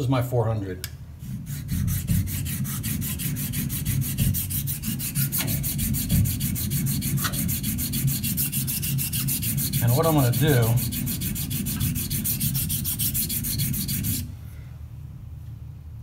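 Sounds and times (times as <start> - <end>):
razor scraping on sharpening plate: 1.3 - 14.3.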